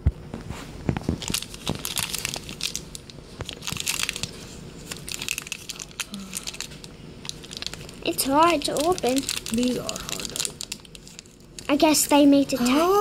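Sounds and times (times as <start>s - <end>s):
plastic wrapper crinkling: 0.9s - 12.0s.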